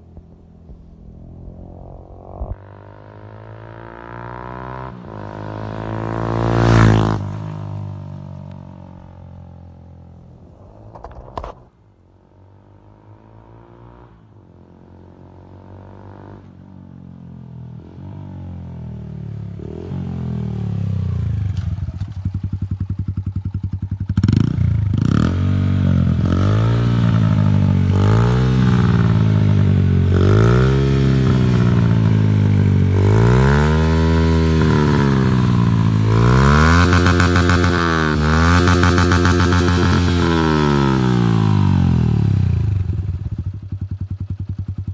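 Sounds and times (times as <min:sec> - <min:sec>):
motorcycle engine revving: 0:00.0 - 0:10.0, 0:17.7 - 0:44.9.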